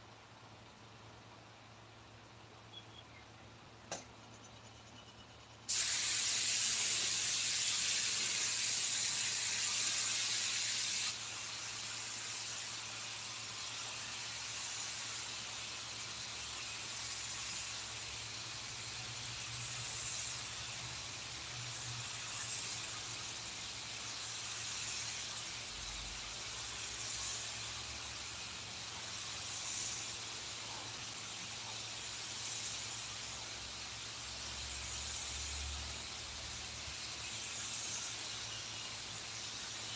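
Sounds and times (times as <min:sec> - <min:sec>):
compressed air hissing: 0:05.7 - 0:39.9.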